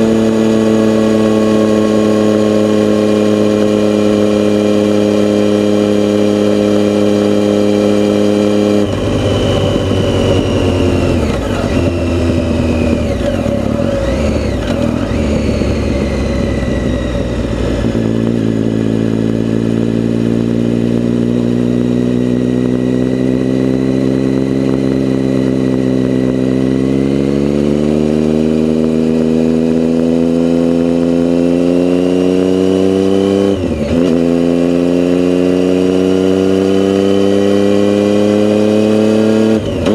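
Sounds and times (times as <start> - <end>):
vehicle engine accelerating: 0.0 - 39.9.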